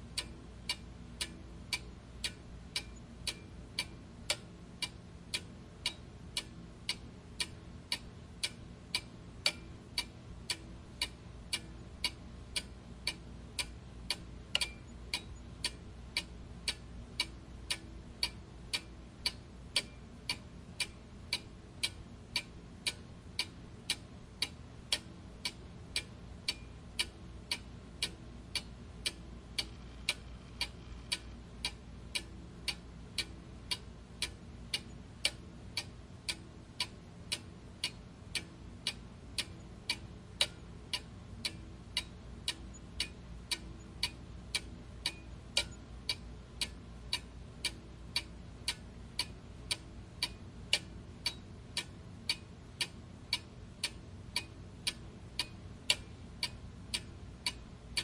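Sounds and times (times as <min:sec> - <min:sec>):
faint low hum: 0:00.0 - 0:58.0
mechanical clock ticking: 0:00.0 - 0:58.0.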